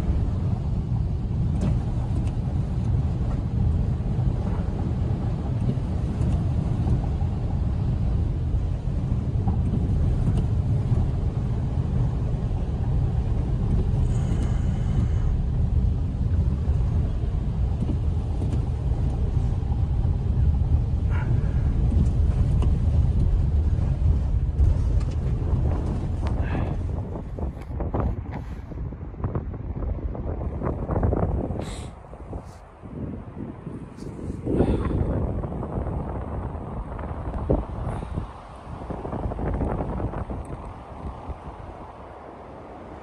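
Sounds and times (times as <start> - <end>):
car engine and tyres rumbling: 0.0 - 43.0.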